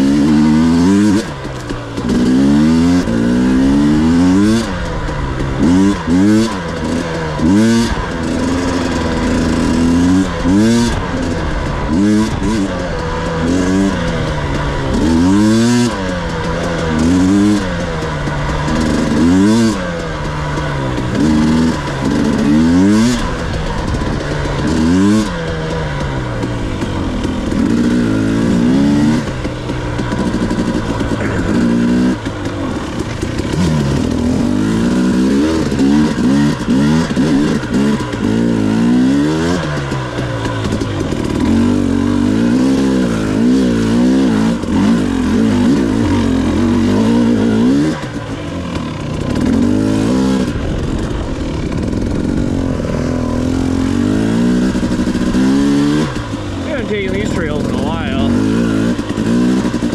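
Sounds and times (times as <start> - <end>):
two-stroke dirt bike engine revving: 0.0 - 59.9.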